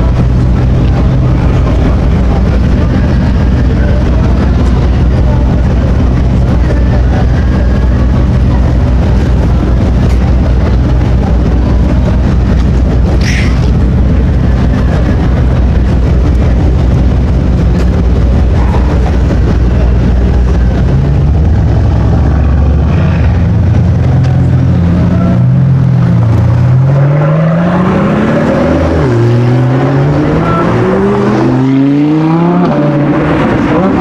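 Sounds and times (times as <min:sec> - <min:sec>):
car engine deep rumble: 0:00.0 - 0:34.0.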